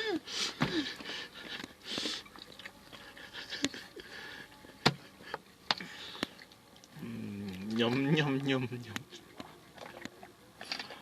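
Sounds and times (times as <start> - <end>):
child chewing noodles: 0.0 - 11.0.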